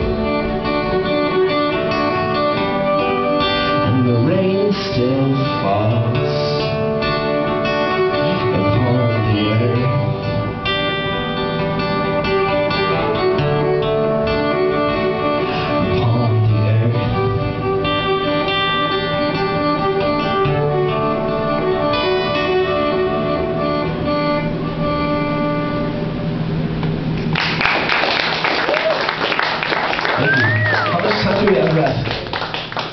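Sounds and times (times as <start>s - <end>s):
fiddle playing: 0.0s - 26.6s, 29.3s - 32.8s
strummed acoustic guitar: 0.0s - 27.3s.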